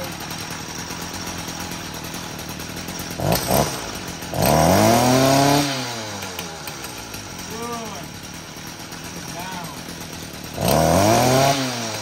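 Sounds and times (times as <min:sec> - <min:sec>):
string trimmer engine revving: 0:00.0 - 0:12.0.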